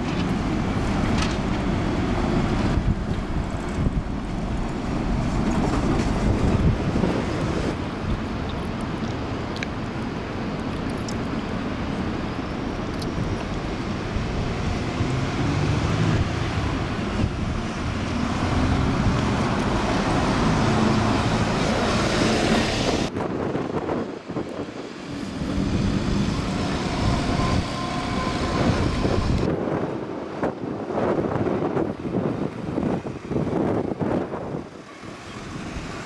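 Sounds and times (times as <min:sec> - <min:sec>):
another bus running: 0:00.0 - 0:36.0
bus engine and tyre noise: 0:00.0 - 0:36.0
general traffic noise: 0:00.0 - 0:36.0.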